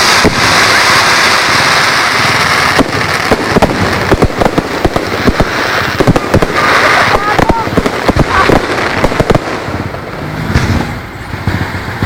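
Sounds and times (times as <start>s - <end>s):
fireworks crackling hiss: 0.0s - 12.0s
fireworks sharp bangs: 0.0s - 12.0s.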